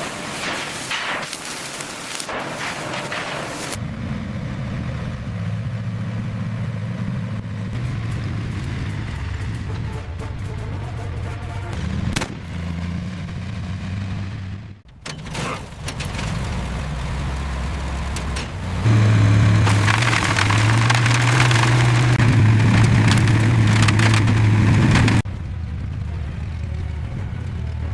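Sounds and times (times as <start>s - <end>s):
heavy vehicle engine droning: 2.3s - 27.9s.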